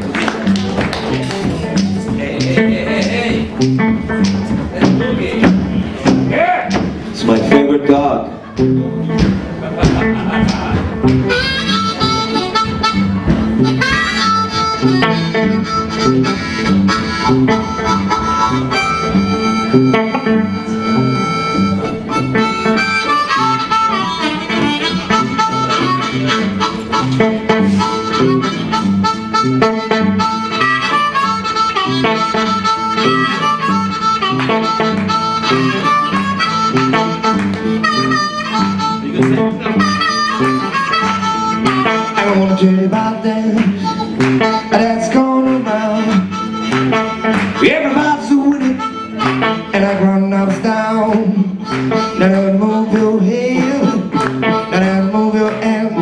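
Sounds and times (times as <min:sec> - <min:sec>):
electric guitar rhythm: 0:00.0 - 0:56.0
blues harmonica solo: 0:10.0 - 0:56.0.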